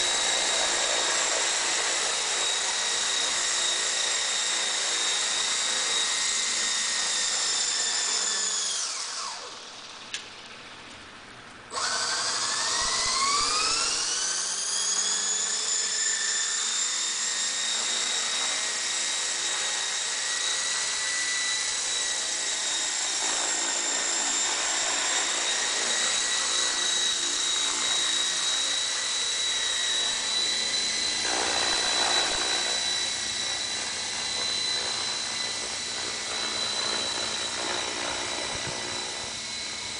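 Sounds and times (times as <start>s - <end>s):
model helicopter motor whine: 0.0s - 10.6s, 11.7s - 39.9s.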